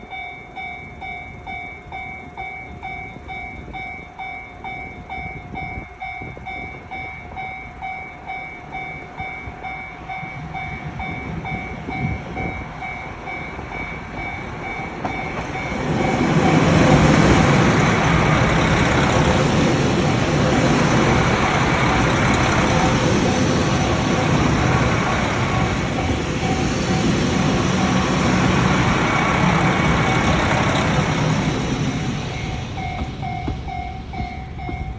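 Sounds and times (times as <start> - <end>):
diesel train passing: 0.0 - 34.9
level-crossing warning bell: 0.0 - 34.9.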